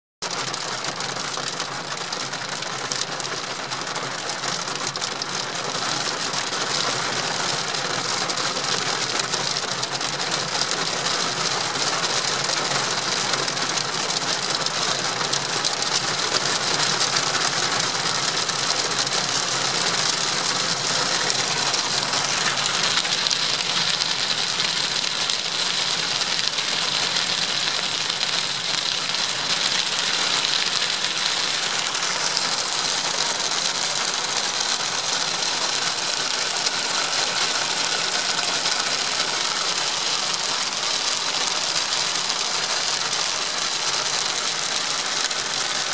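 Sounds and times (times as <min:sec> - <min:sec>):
hail pelting car roof: 0:00.2 - 0:45.9.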